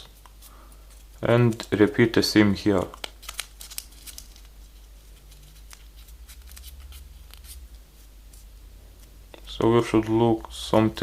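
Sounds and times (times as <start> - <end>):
paper crinkling and ticking: 0.0 - 10.2
low steady hum: 0.0 - 11.0.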